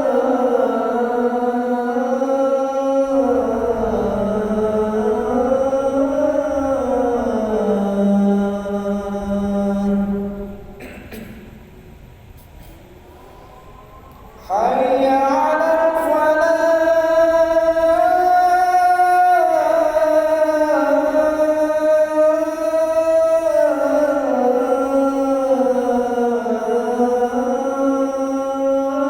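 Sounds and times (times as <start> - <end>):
man chanting call to prayer: 0.0 - 10.8, 14.2 - 29.0.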